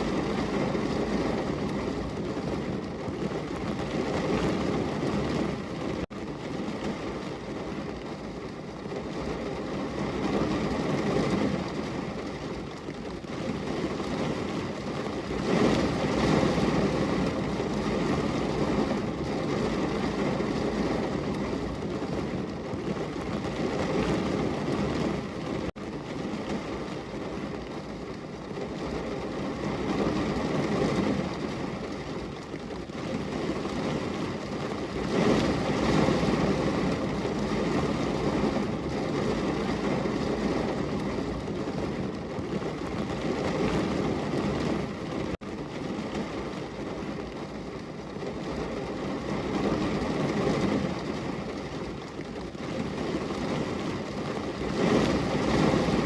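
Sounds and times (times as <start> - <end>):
heavy rain on window: 0.0 - 56.0.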